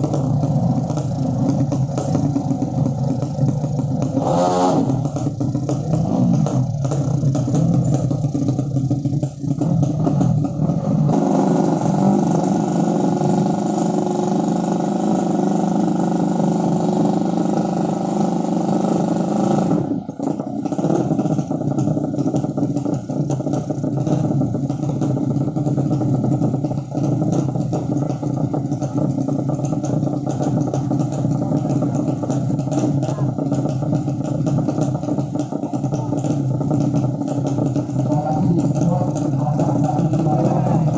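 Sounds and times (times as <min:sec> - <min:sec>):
motorcycle engines at high revs: 0:00.0 - 0:40.9.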